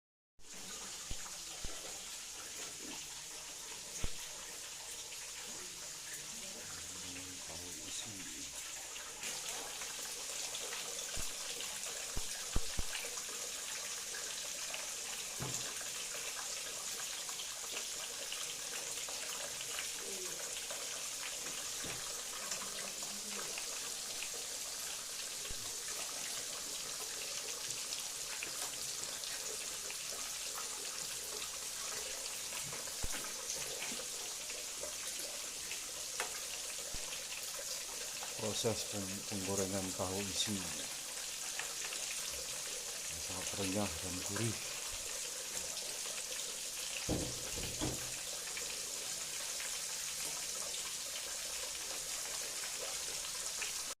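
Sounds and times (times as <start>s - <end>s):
food deep-frying in hot oil: 0.4s - 54.0s.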